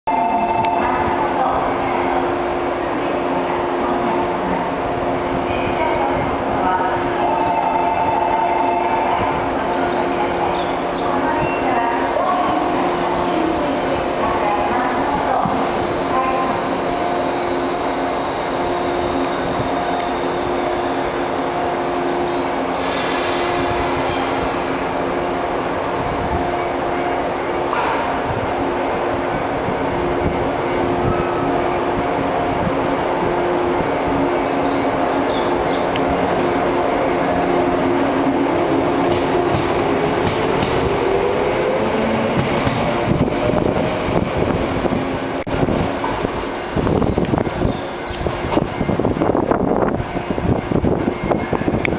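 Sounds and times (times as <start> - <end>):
electric train humming: 0.1 - 51.9.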